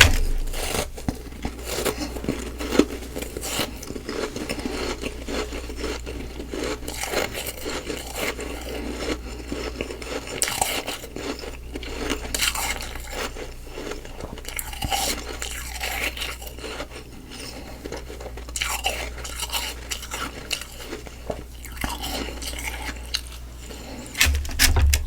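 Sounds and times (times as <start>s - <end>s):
crunching and chewing ice: 0.0s - 25.0s.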